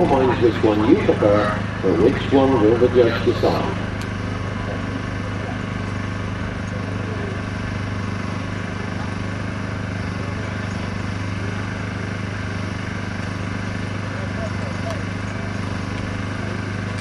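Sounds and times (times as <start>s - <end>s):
faint outdoor crowd noise: 0.0s - 17.0s
low mechanical drone: 0.0s - 17.0s.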